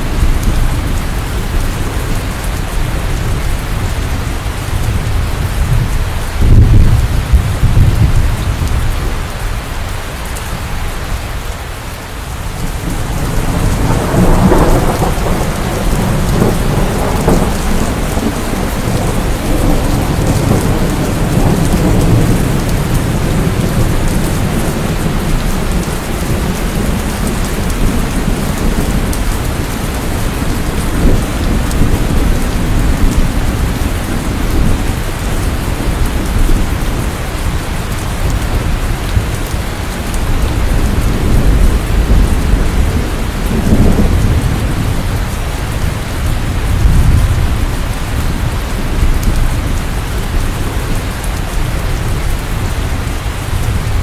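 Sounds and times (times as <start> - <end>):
rolling thunder: 0.0 - 9.5, 12.4 - 54.0
heavy rain: 0.0 - 54.0.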